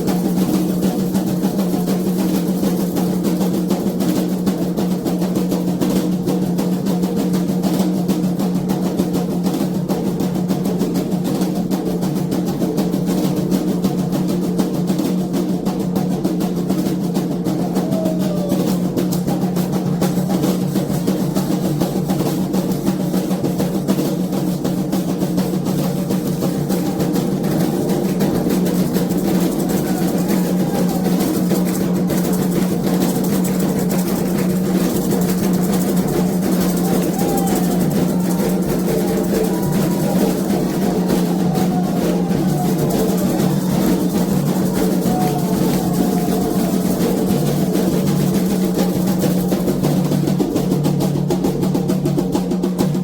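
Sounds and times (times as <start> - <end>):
hand drums playing rapid rhythm: 0.0 - 53.0.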